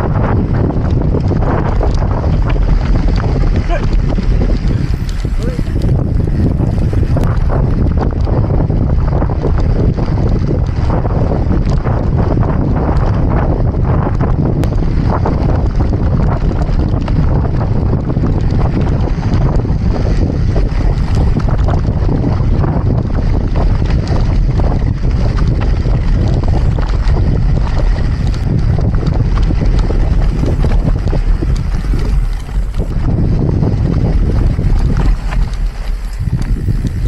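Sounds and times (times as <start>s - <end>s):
heavy wind buffeting microphone: 0.0s - 37.0s.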